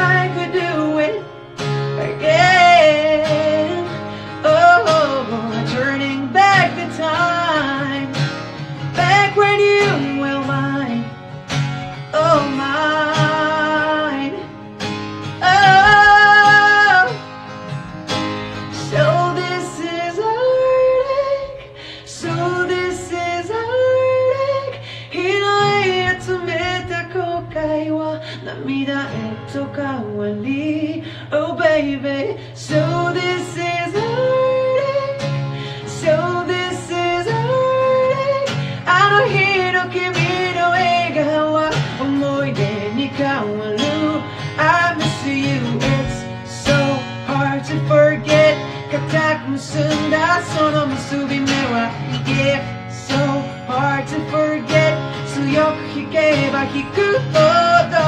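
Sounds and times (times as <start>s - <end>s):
man singing in high voice: 0.0s - 1.3s, 2.0s - 11.2s, 12.0s - 14.6s, 15.3s - 17.4s, 18.6s - 58.0s
acoustic guitar: 0.0s - 58.0s.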